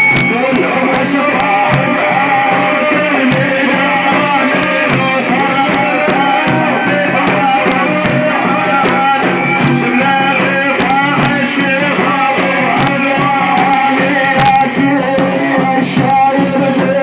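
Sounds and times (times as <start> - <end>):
frame drums beating: 0.0 - 17.0
solo praise singing: 0.0 - 17.0.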